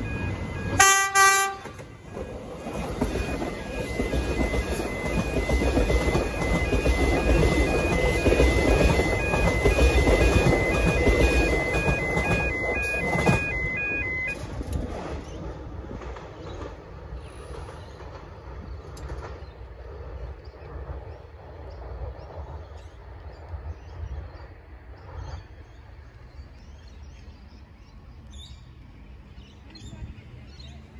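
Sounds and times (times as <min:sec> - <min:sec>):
high whine of train motor: 0:00.0 - 0:30.9
train wheels on rail: 0:00.0 - 0:30.9.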